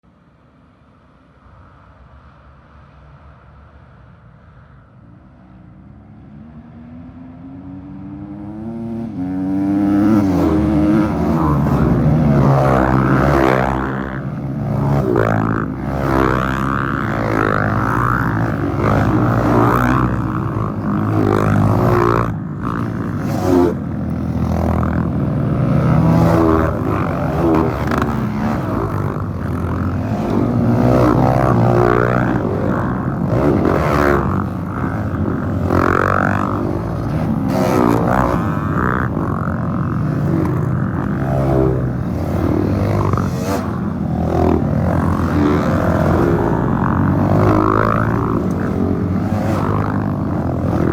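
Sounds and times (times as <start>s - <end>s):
dirt bikes passing by: 4.4s - 50.9s.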